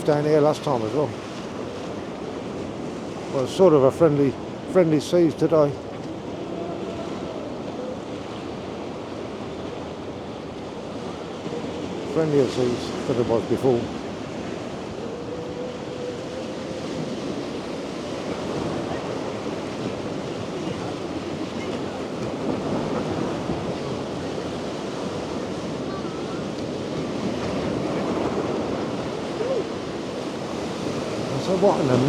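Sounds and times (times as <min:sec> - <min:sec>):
sea waves breaking on shore: 0:00.0 - 0:32.0
wind on microphone: 0:05.8 - 0:32.0.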